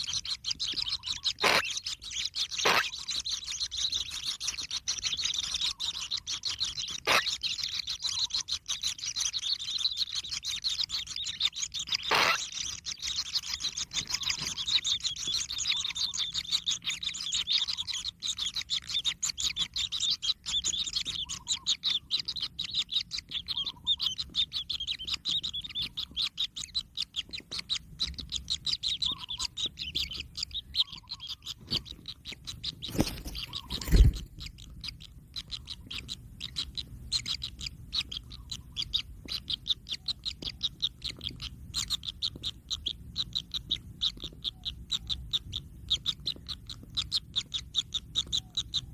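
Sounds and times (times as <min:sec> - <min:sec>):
chicks begging chirps: 0:00.0 - 0:48.9.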